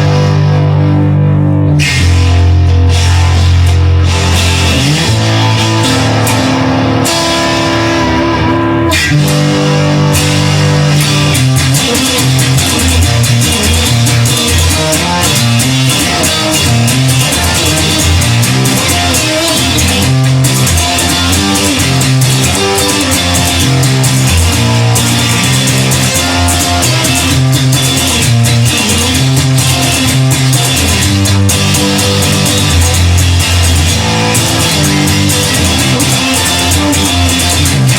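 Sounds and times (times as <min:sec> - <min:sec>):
bass guitar: 0:00.0 - 0:37.9
guitar: 0:00.0 - 0:37.9
drum kit: 0:01.8 - 0:37.9.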